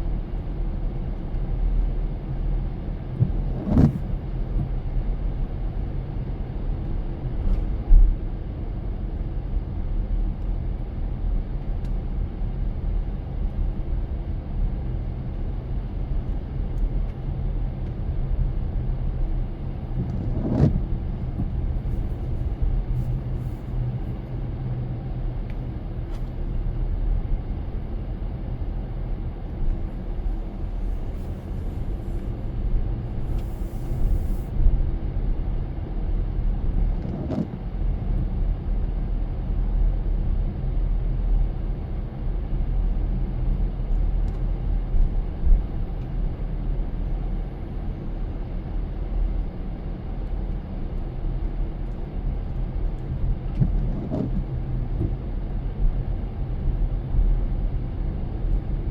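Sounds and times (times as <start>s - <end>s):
car driving on wet road: 0.3s - 8.1s, 9.1s - 38.6s, 39.3s - 58.8s.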